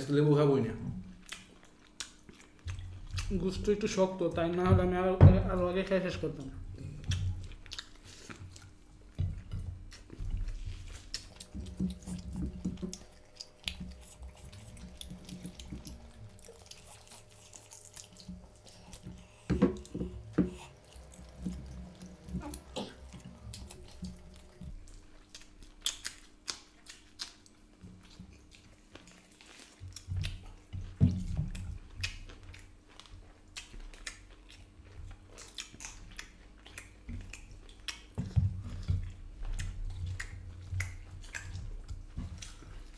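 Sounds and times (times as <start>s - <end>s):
people chewing food: 0.0s - 42.9s
lip smacks: 6.8s - 30.8s, 31.5s - 42.9s.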